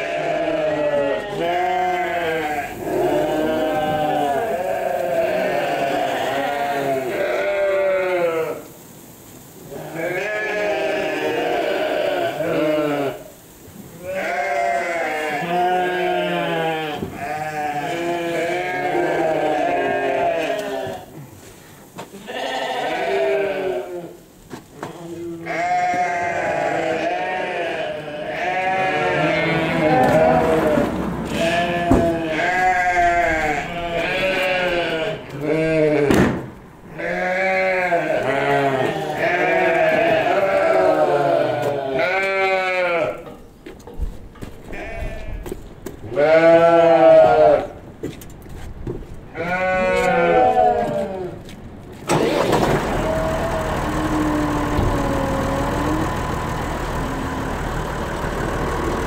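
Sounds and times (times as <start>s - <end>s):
sheep bleating: 0.0s - 8.7s, 9.7s - 13.2s, 14.0s - 21.2s, 22.1s - 24.2s, 24.8s - 36.2s, 36.9s - 43.3s, 44.7s - 45.5s, 46.1s - 47.7s, 49.3s - 52.2s, 53.0s - 59.0s.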